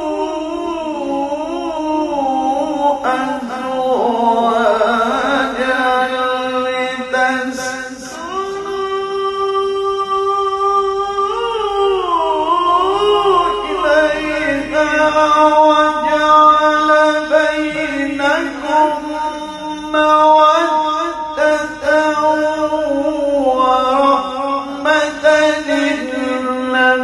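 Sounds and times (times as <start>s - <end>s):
man reciting in melodic chant: 0.0s - 27.0s.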